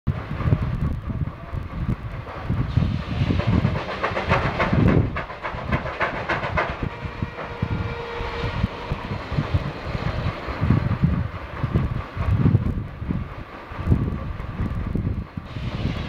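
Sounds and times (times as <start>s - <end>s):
steam engine exhausts chuffing: 1.1s - 14.1s.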